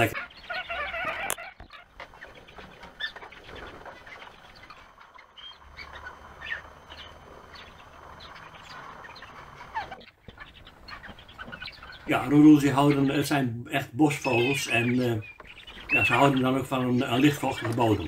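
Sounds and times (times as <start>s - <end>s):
birds pecking seed in tray: 0.0s - 18.0s.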